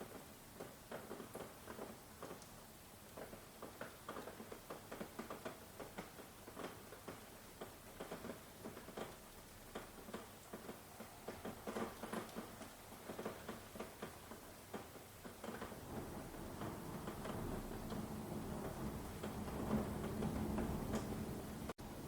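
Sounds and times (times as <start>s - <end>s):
rain dripping on hard surface: 0.0s - 22.0s.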